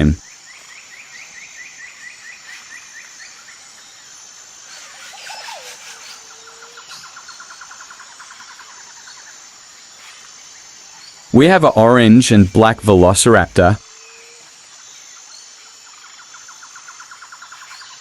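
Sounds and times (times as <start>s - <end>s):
high insect trill: 0.0s - 18.0s.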